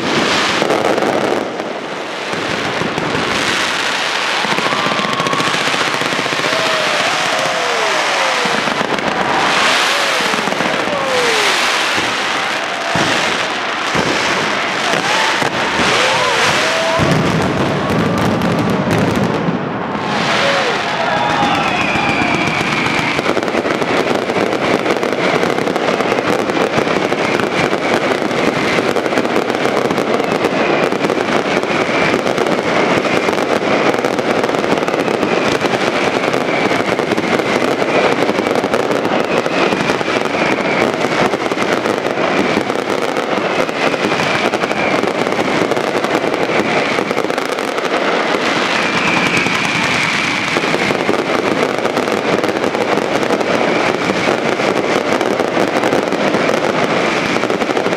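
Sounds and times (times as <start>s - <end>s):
firework whistles: 0.0s - 57.9s
fireworks crackling and banging: 0.0s - 57.9s.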